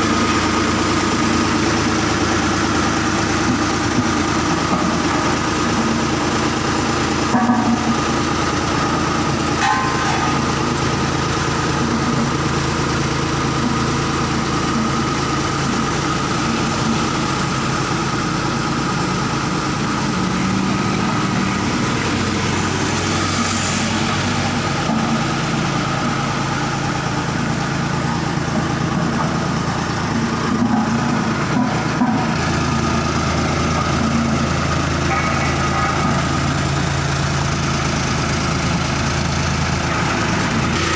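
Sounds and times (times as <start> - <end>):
machinery engine idling: 0.0 - 40.9.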